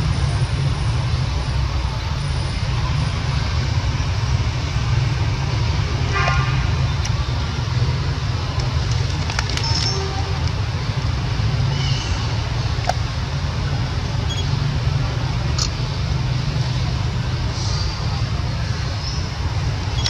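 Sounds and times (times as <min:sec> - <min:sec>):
loud outdoor rumble and hiss: 0:00.0 - 0:20.0.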